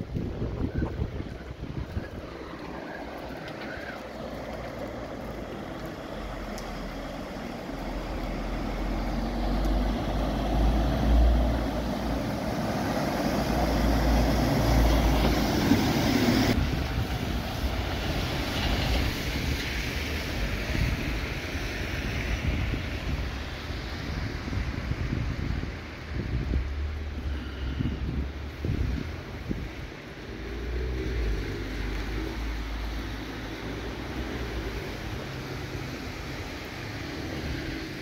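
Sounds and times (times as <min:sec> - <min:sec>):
rain rushing: 0:00.0 - 0:38.0
wind: 0:00.0 - 0:38.0
wind rumble on microphone: 0:00.0 - 0:38.0.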